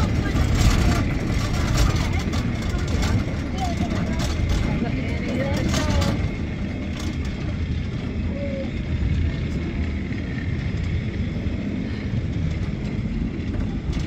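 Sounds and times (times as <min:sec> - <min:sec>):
cliff railway car rumbling: 0:00.0 - 0:14.0.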